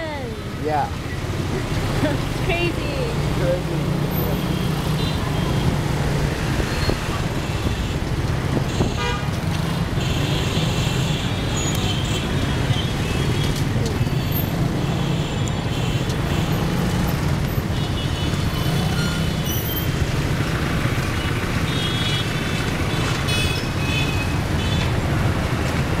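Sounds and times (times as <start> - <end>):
city traffic noise: 0.0 - 26.0.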